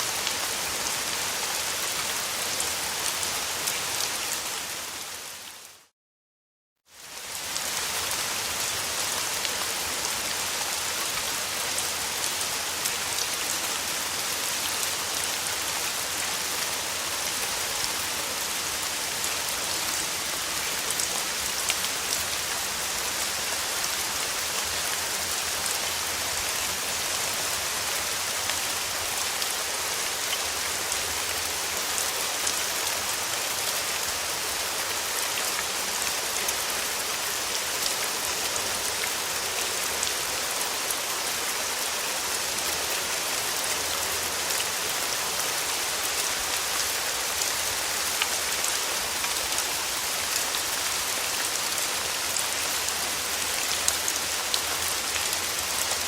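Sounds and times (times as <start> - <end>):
steady rain falling: 0.0 - 5.9, 6.9 - 56.0.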